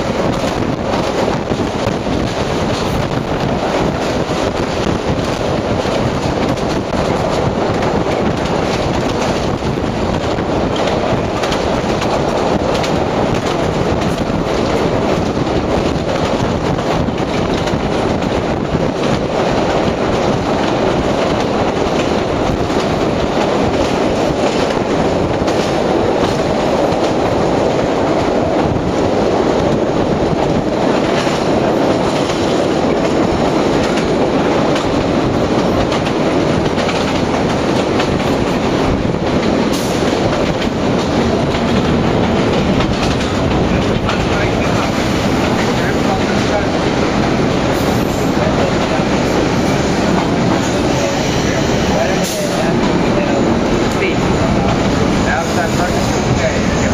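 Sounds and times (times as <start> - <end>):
subway train rumble: 0.0 - 56.9
wheels clattering on rails: 0.0 - 56.9.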